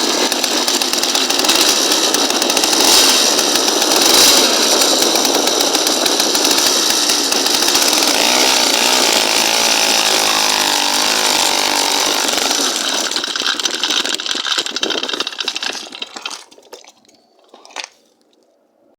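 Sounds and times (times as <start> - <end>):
small engine buzzing and sputtering: 0.0 - 16.6.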